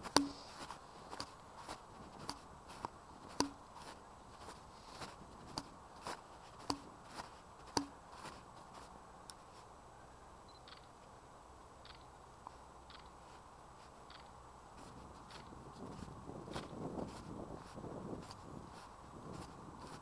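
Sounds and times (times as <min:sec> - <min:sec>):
faint footsteps: 0:00.0 - 0:09.7, 0:11.9 - 0:20.0.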